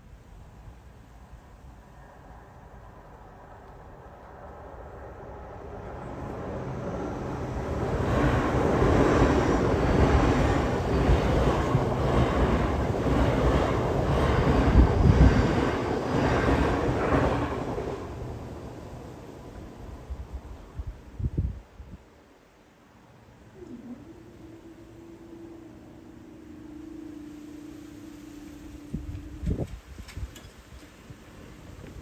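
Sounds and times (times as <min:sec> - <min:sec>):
train passing at speed: 0:00.0 - 0:23.1, 0:24.6 - 0:32.0.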